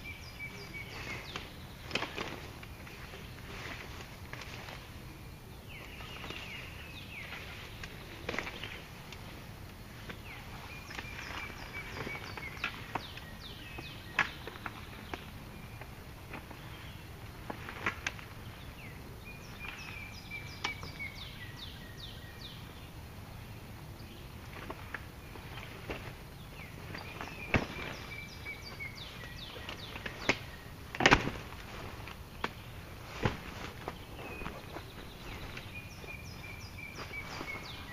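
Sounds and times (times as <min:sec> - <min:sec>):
birds singing whistled notes: 0:00.0 - 0:31.0, 0:31.7 - 0:37.9.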